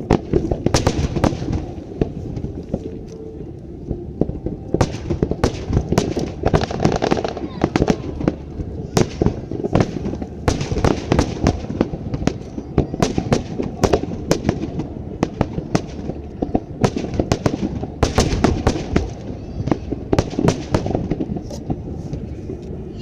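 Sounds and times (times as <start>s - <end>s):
fireworks bangs: 0.0s - 3.0s, 3.9s - 22.4s
rumble of firework bursts: 0.0s - 23.0s.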